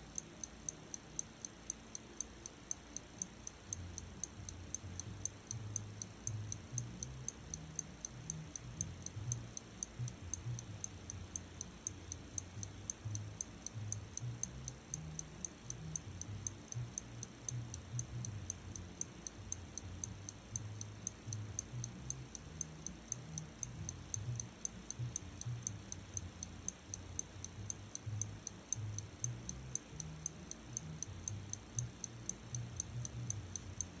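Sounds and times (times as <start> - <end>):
pocket watch ticking: 0.0 - 34.0.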